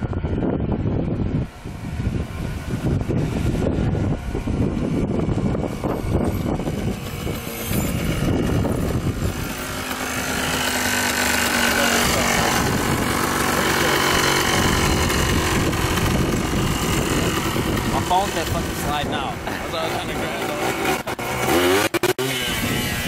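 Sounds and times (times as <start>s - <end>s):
wind rumbling on microphone: 0.0s - 23.0s
atv engine idling: 1.2s - 21.8s.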